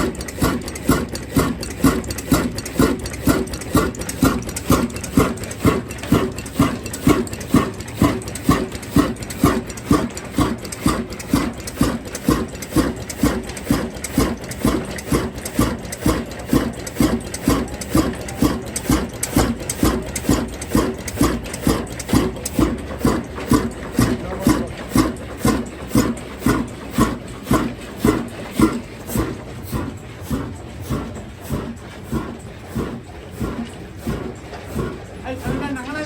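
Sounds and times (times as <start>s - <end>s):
diesel engine knocking: 0.0s - 36.0s.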